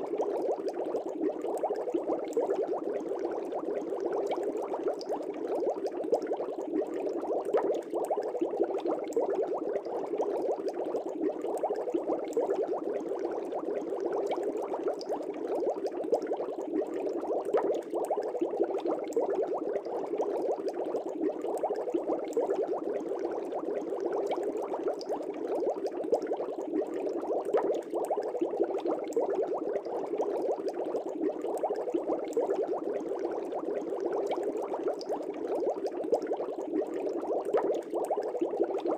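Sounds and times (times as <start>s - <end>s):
aquarium air bubbling: 0.0s - 38.9s.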